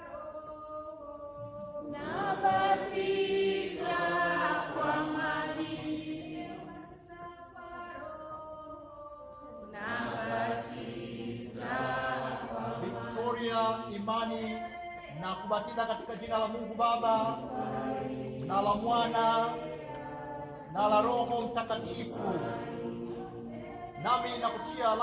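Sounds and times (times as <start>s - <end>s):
voices singing together: 0.0s - 25.0s.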